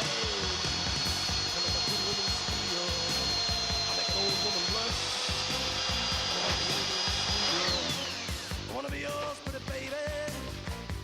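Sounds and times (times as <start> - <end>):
electric drill whining: 0.0 - 11.0
rock music: 0.0 - 11.0.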